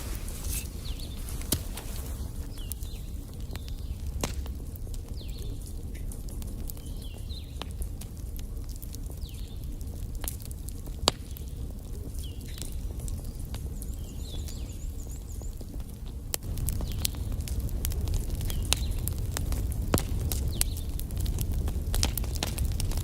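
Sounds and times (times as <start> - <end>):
low fire rumble: 0.0 - 23.0
wood fire crackling and popping: 0.0 - 23.0.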